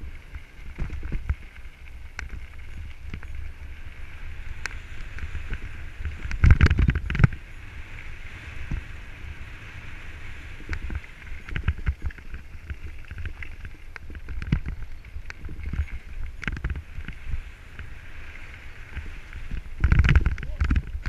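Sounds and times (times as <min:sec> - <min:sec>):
bike knocking and rattling: 0:00.0 - 0:21.0
tyres rumbling on gravel: 0:00.0 - 0:21.0
wind: 0:00.0 - 0:21.0.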